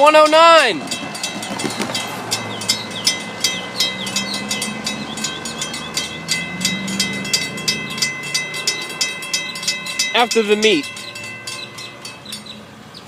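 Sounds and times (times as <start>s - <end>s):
high-pitched ringing tones: 0.0s - 12.8s
train wheels clicking over rail joints: 0.7s - 12.6s.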